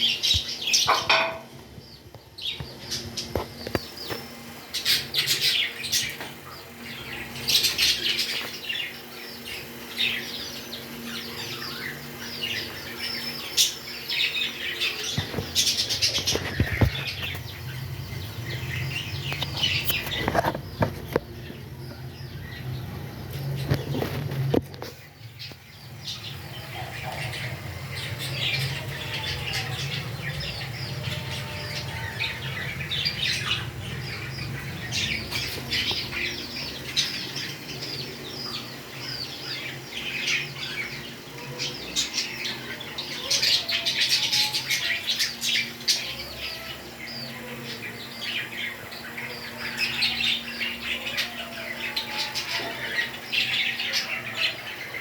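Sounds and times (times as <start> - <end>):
parrots chirping and squawking: 0.0 - 1.6, 2.4 - 21.6, 23.6 - 55.0.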